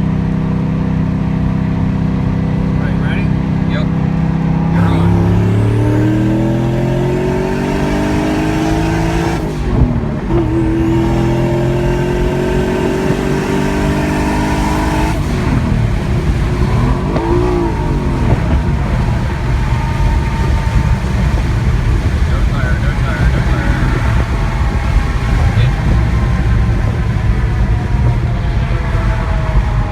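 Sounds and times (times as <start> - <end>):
car engine accelerating hard: 0.0 - 29.9
rough noise: 1.6 - 29.3.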